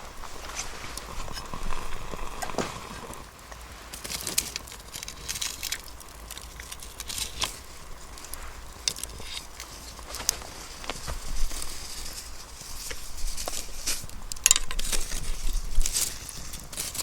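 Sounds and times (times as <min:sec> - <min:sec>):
campfire crackling and popping: 0:00.0 - 0:17.0
faint hiss: 0:00.0 - 0:17.0.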